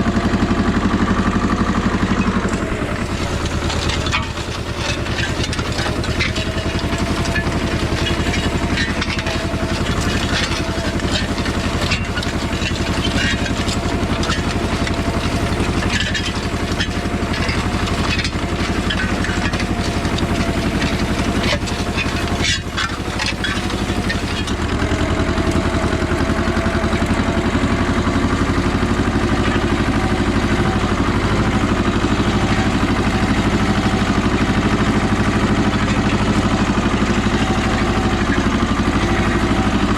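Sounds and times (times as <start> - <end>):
tractor diesel engine running: 0.0 - 39.9
rattles and knocks: 1.9 - 39.9.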